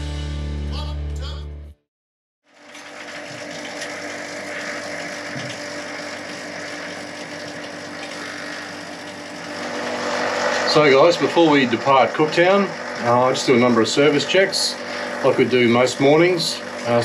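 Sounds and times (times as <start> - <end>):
engine room machinery hum: 2.5 - 17.0.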